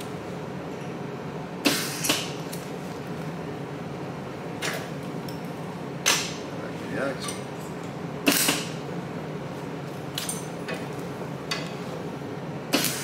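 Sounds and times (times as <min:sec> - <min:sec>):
low shop hum: 0:00.0 - 0:13.0.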